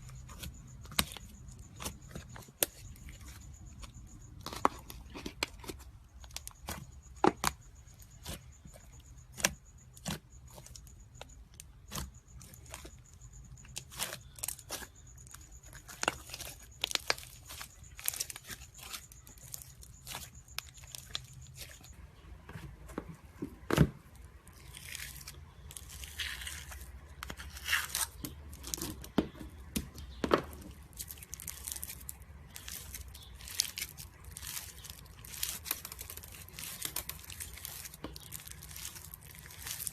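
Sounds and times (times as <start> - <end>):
rustling and crinkling: 0.0 - 39.9.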